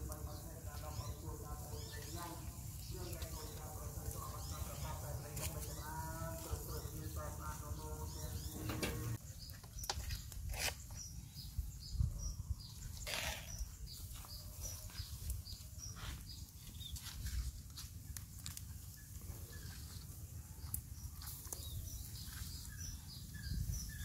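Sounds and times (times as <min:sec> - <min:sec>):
bird chirping: 0:00.0 - 0:17.5, 0:18.8 - 0:24.0.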